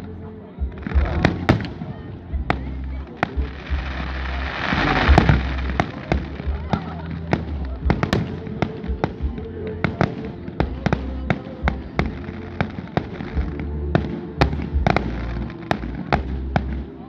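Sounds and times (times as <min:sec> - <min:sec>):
low rumble: 0:00.0 - 0:16.8
fireworks bursting with sharp bangs: 0:00.6 - 0:17.0.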